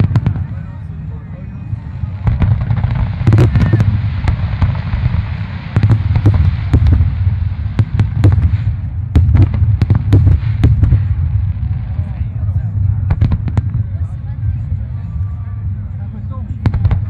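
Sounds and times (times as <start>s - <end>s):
fireworks bursts and bangs: 0.0s - 14.9s, 16.5s - 17.0s
low rumble: 0.0s - 17.0s.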